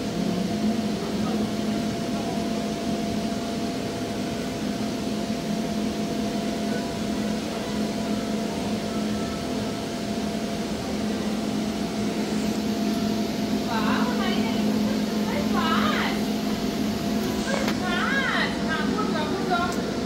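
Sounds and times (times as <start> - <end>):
fan machine droning: 0.0 - 20.0.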